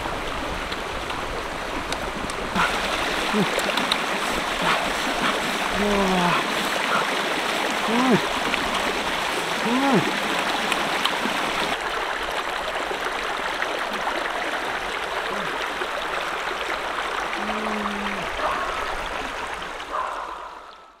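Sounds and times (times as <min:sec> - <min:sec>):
stream rushing over stones: 0:00.0 - 0:20.0.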